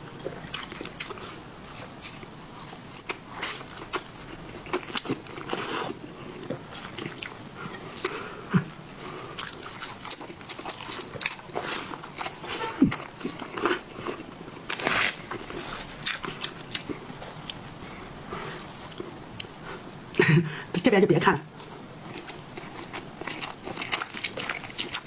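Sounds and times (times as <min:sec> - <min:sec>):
person chewing crunchy food: 0:00.0 - 0:20.0, 0:21.6 - 0:25.0.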